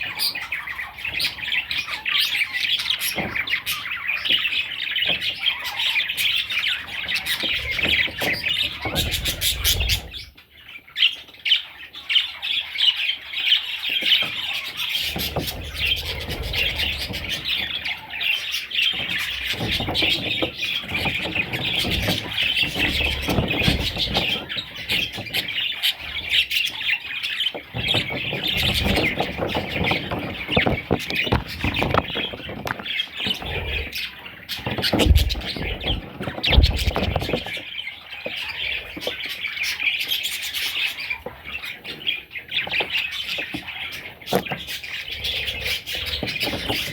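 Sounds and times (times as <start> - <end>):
budgerigars chattering and chirping: 0.0 - 46.9.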